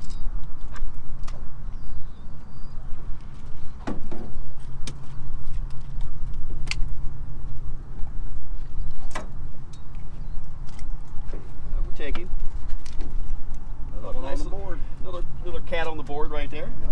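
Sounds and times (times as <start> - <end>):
low steady hum: 0.0 - 16.9
wind rumbling on microphone: 0.0 - 16.9.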